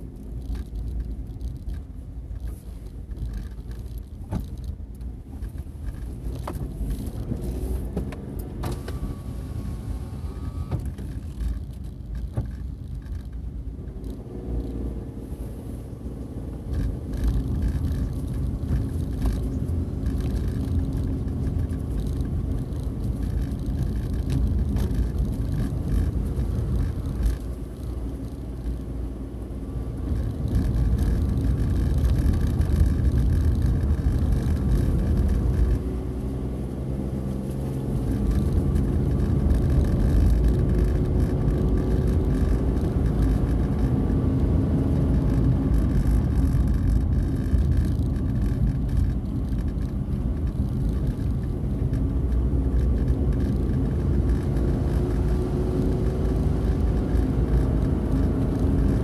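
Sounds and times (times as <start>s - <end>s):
car engine: 0.0s - 59.0s
road noise inside car: 0.0s - 59.0s.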